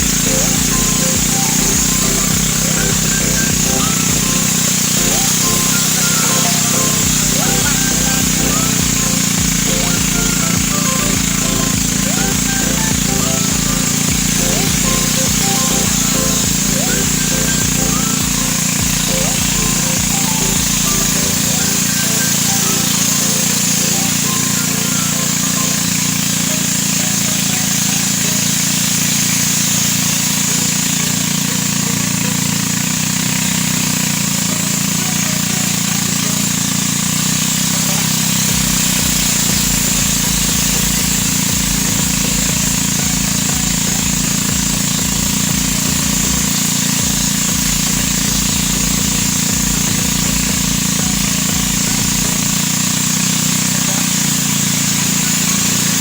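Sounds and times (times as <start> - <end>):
constant hiss: 0.0 - 56.0
small engine running: 0.0 - 56.0.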